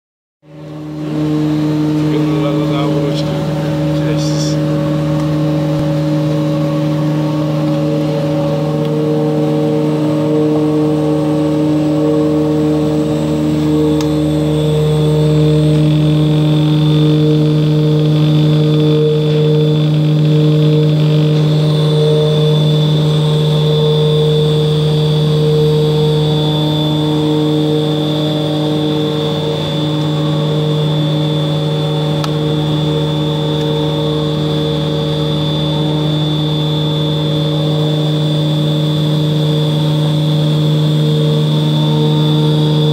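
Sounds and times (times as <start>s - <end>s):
mixer motor humming with whine: 0.4s - 42.9s.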